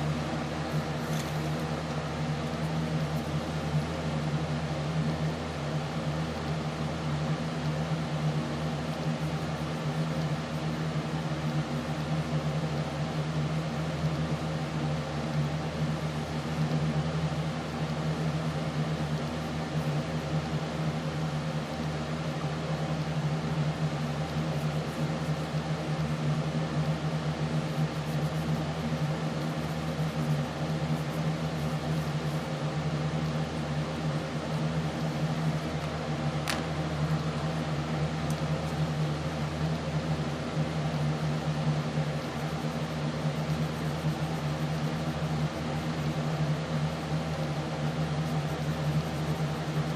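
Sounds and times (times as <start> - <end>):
steady mechanical hum: 0.0 - 49.9.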